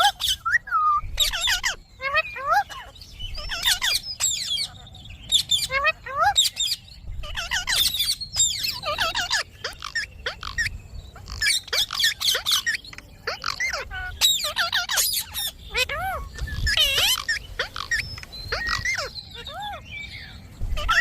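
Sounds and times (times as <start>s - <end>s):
parrots chattering and squawking: 0.0s - 21.0s.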